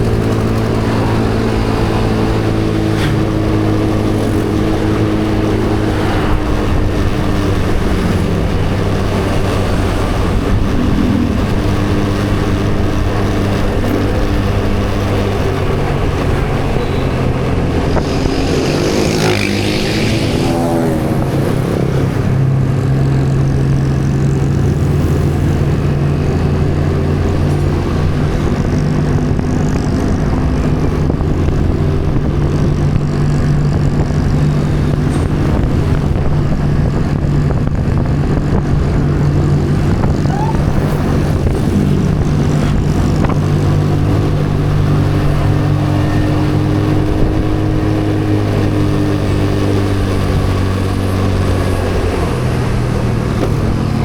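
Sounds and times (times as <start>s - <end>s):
road and wind noise: 0.0s - 54.0s
vehicle engine running: 0.0s - 54.0s
vehicle passing by: 0.0s - 54.0s.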